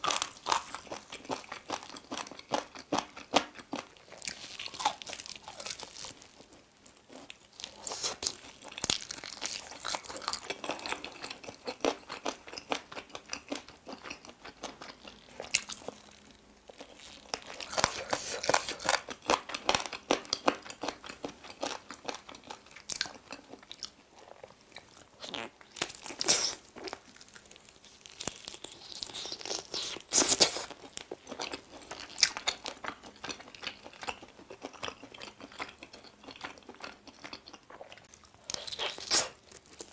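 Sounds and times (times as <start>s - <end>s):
chewing and crunching chicken: 0.0s - 39.9s.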